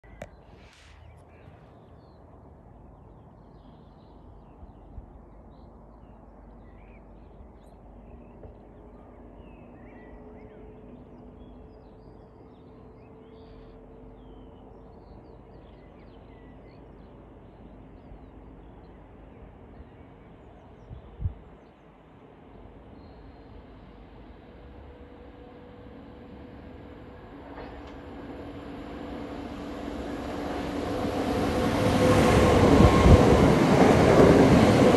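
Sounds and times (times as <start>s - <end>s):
faint hum of distant train: 0.0s - 34.9s
low outdoor background rumble: 1.3s - 31.2s.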